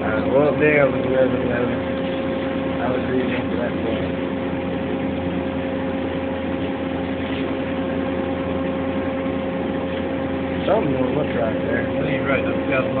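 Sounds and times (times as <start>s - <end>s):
machine shop equipment humming: 0.0s - 13.0s.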